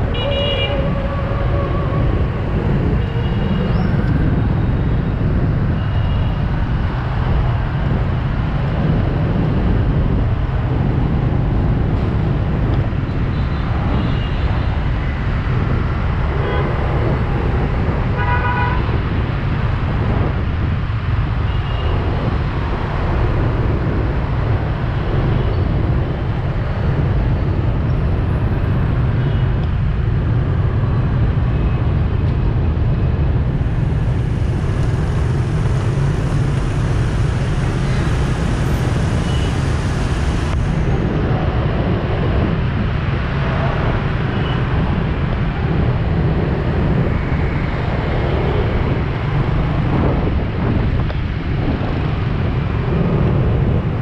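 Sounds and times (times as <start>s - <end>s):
motorbike traffic rumble: 0.0s - 54.0s.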